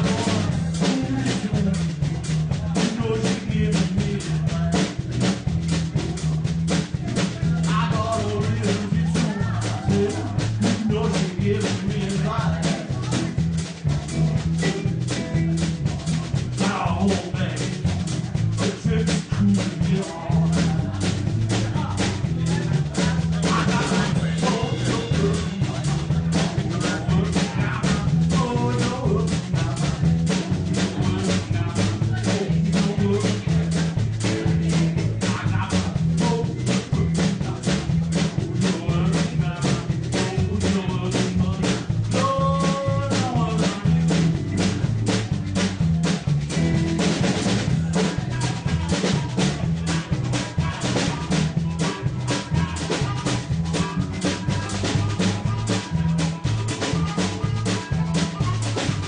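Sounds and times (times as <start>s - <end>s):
bass line: 0.0s - 59.0s
drum kit beat: 0.0s - 59.0s
guitar: 0.0s - 59.0s
person singing: 0.0s - 59.0s.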